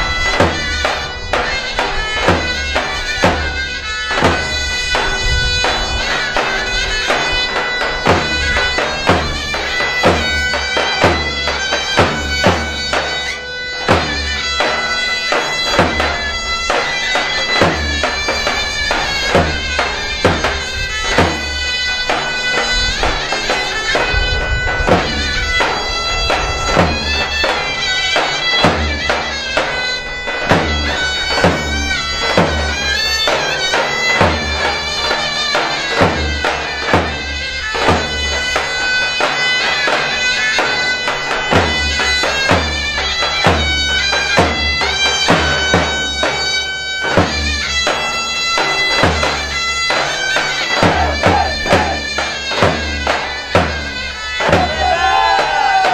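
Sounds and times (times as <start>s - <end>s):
reed melody: 0.0s - 55.9s
slow drum strokes: 0.0s - 55.9s.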